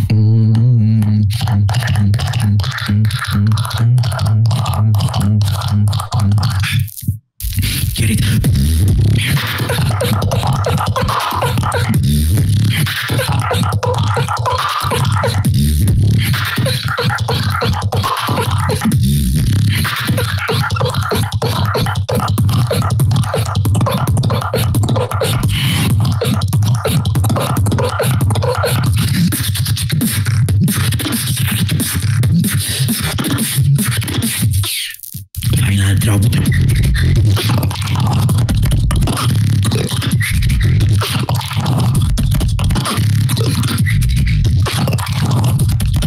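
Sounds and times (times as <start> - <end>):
beatboxing into a microphone: 0.0 - 46.0.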